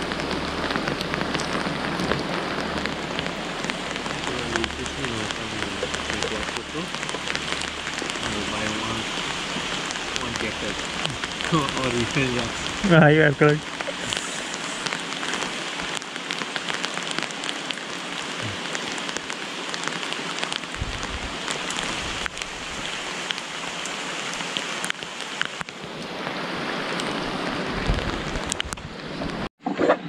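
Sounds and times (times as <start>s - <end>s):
rain falling on water: 0.0s - 29.5s.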